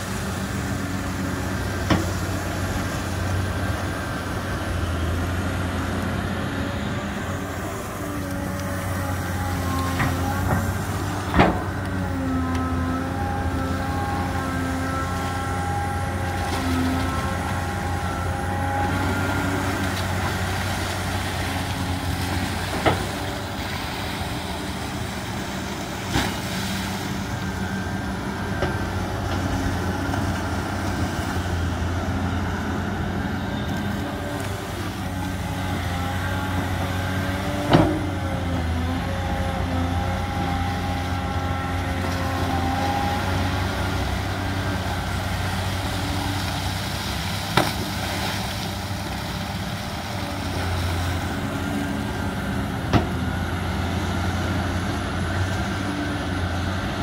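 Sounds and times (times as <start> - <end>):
hydraulic whine: 0.0 - 56.8
excavator engine hum: 0.0 - 57.0.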